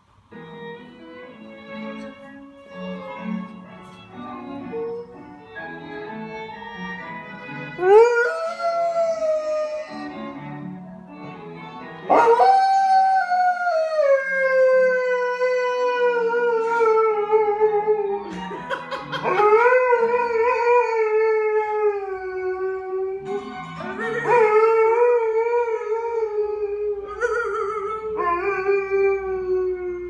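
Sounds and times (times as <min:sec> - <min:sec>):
music: 0:00.0 - 0:30.0.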